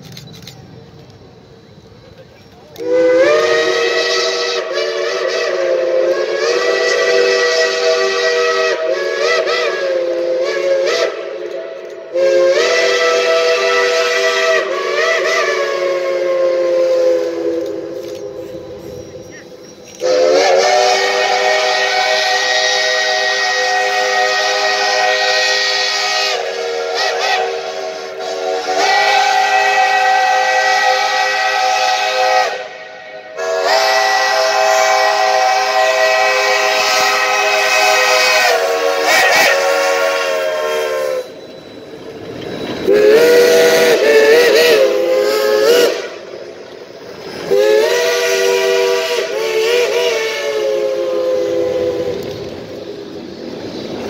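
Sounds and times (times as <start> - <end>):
steam locomotive whistle: 1.5 - 53.8.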